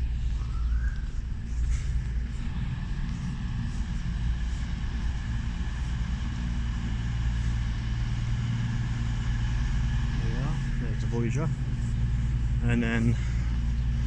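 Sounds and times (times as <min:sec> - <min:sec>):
diesel train engine rumble: 0:00.0 - 0:14.0
faint high steady tones: 0:00.0 - 0:14.0.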